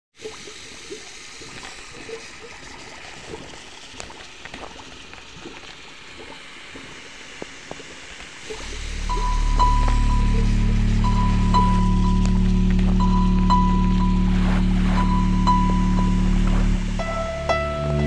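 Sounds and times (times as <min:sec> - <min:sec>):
water bubbling and trickling: 0:00.2 - 0:18.0.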